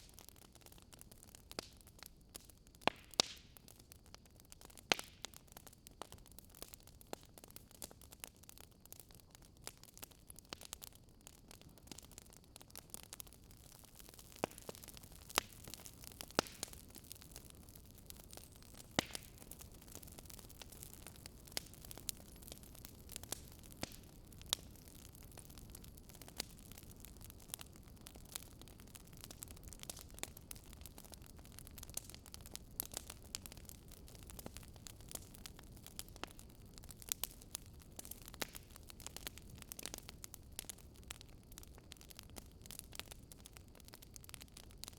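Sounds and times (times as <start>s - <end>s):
low steady hiss: 0.0s - 44.9s
sharp pops from fire: 0.0s - 44.9s
wood fire crackling: 0.0s - 44.9s.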